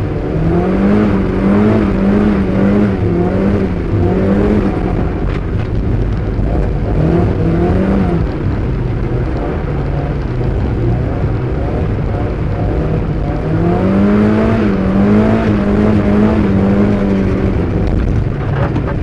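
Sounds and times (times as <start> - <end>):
car engine revving: 0.0 - 19.0
road noise: 0.0 - 19.0.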